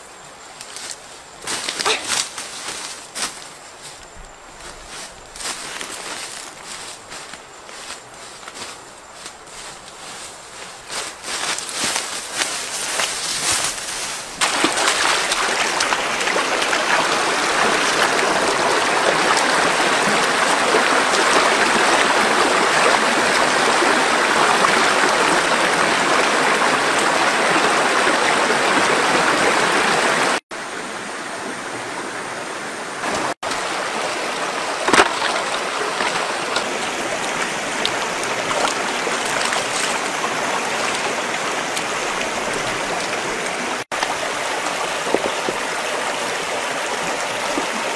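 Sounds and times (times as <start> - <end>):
stream water rushing: 1.3 - 47.9.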